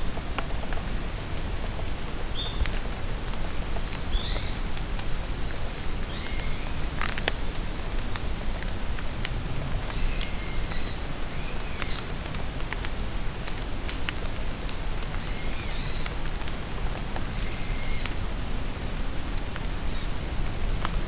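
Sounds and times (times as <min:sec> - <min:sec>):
rain falling in a forest: 0:00.0 - 0:21.0.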